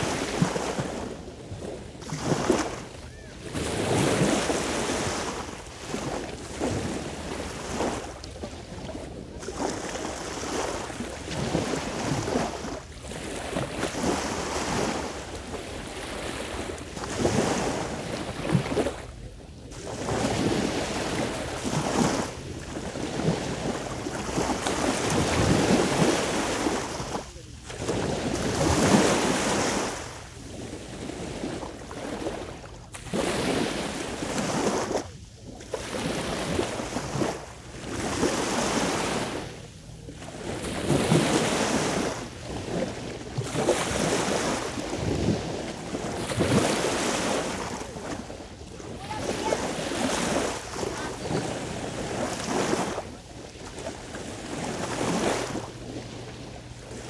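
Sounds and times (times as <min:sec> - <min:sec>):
sea waves washing ashore: 0:00.0 - 0:57.0.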